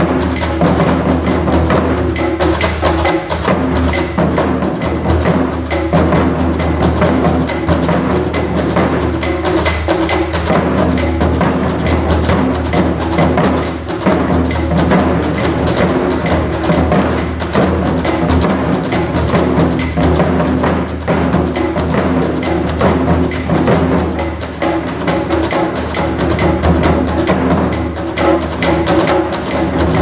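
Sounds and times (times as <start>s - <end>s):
taiko drumming music: 0.0s - 30.0s
wood block strikes: 0.0s - 30.0s.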